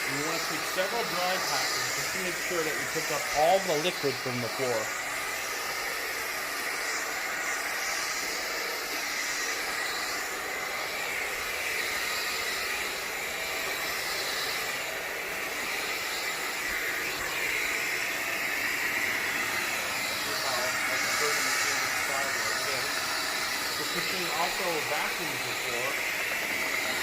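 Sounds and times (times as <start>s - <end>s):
floor cleaner running: 0.0s - 27.0s.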